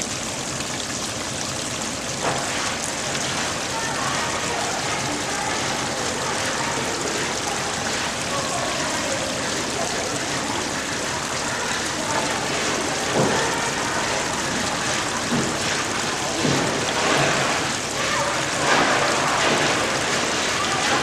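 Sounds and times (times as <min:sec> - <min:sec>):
wash water rushing: 0:00.0 - 0:21.0.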